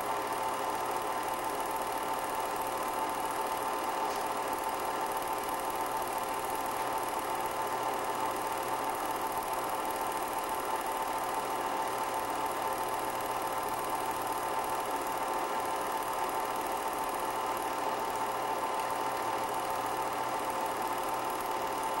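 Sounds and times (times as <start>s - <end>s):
film projector whirring: 0.0s - 22.0s.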